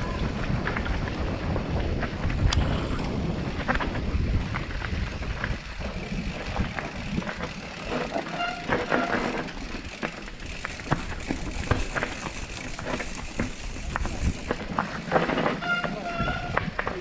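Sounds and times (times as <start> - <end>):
bike rattling over rough trail: 0.0 - 17.0
wind rumble on microphone: 0.0 - 17.0.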